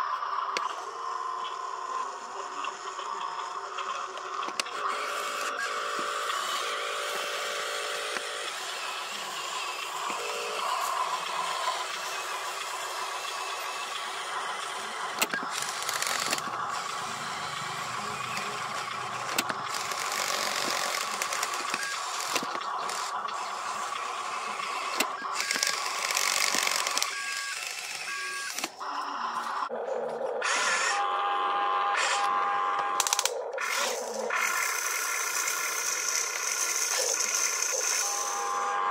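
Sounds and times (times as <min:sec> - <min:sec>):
small electric motors whining: 0:00.0 - 0:29.8, 0:30.4 - 0:38.9.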